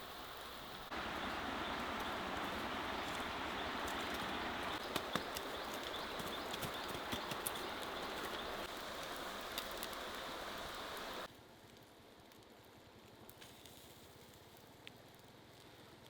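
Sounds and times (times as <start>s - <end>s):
crackling hiss with small ticks: 0.0s - 16.0s
quiet outdoor ambience: 0.0s - 16.0s.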